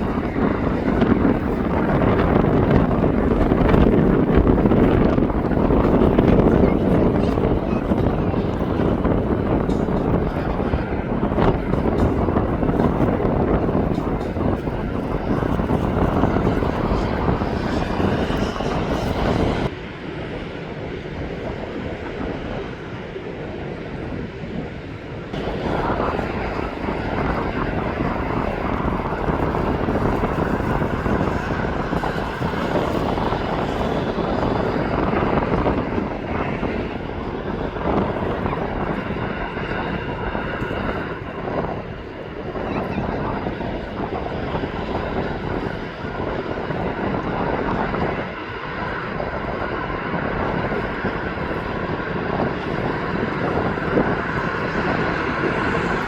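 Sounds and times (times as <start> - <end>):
jet engines rushing: 0.0 - 56.0.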